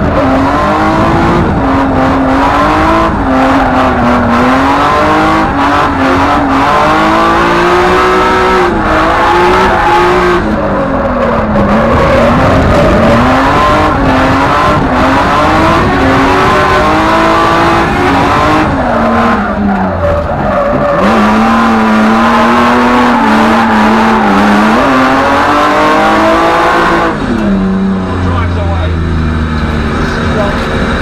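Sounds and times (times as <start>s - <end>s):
car engine at high revs: 0.0s - 31.0s.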